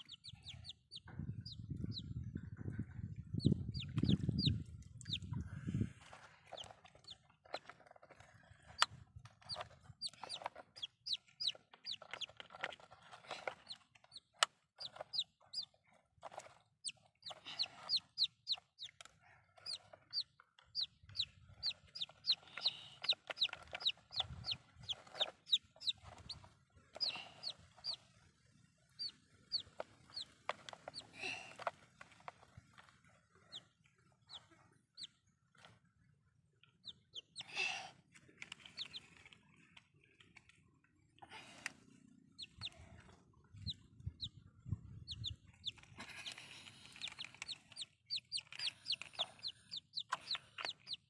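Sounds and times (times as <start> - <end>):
chick peeping: 0.0 - 35.7, 36.8 - 37.4, 38.4 - 39.4, 42.1 - 51.0.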